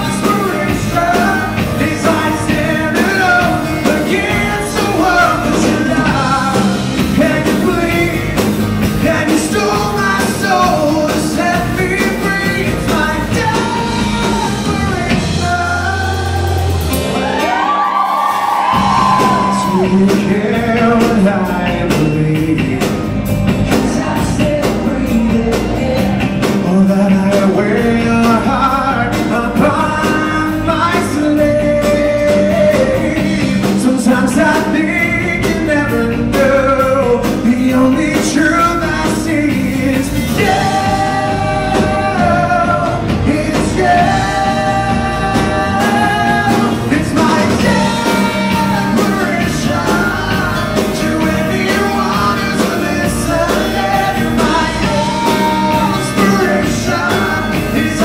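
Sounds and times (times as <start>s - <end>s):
drum kit: 0.0s - 58.0s
electric bass: 0.0s - 58.0s
keyboard: 0.0s - 58.0s
man singing lead vocals: 0.0s - 58.0s.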